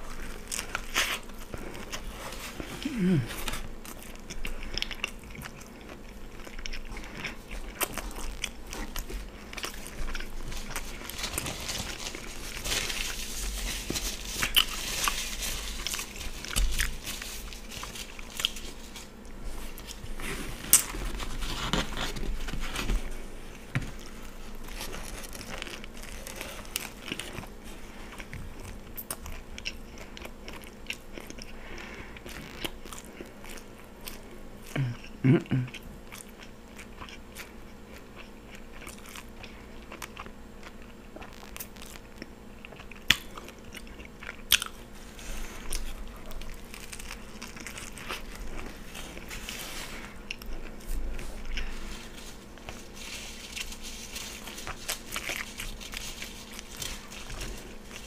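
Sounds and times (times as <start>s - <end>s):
chewing and biting sandwich: 0.0s - 58.0s.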